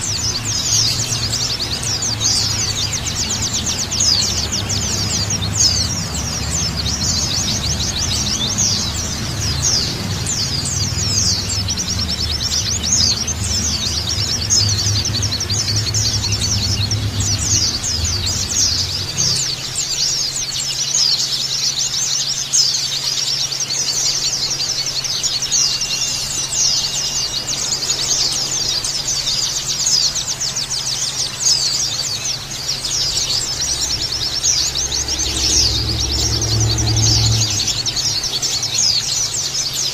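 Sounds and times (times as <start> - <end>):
small birds chirping densely: 0.0 - 39.9.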